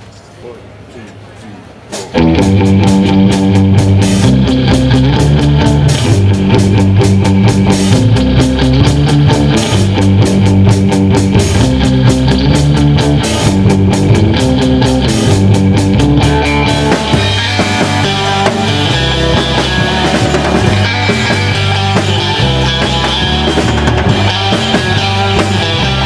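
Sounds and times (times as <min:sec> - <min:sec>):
drum kit: 0:01.8 - 0:26.0
electric guitar: 0:01.9 - 0:26.0
bass guitar: 0:02.0 - 0:26.0.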